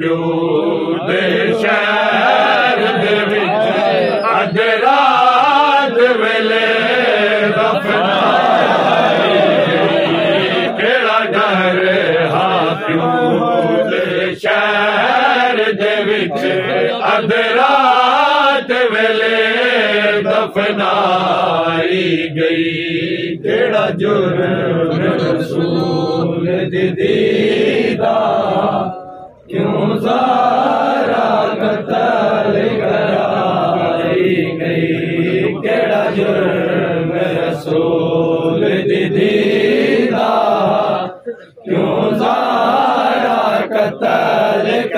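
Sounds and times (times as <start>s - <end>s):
men chanting a lament: 0.0s - 44.9s.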